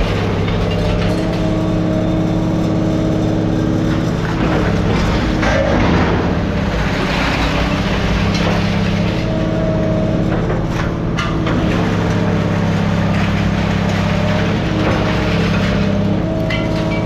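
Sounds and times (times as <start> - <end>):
heavy machine engine running: 0.0 - 17.0
metal clanks: 0.0 - 17.0.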